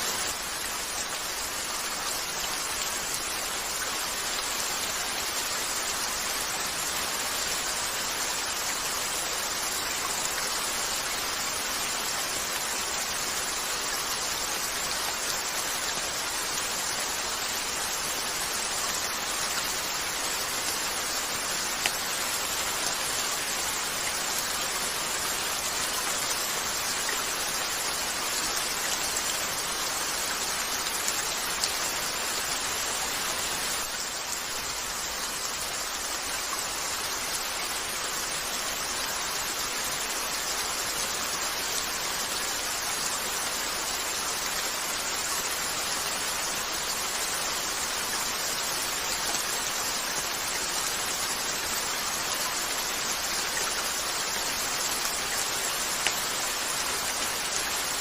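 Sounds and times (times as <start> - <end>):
rain falling on a window: 0.0 - 58.0.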